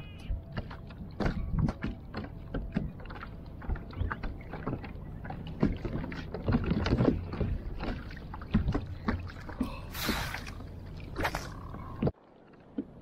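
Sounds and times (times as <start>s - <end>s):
water splashing against kayak hull: 0.5s - 13.0s.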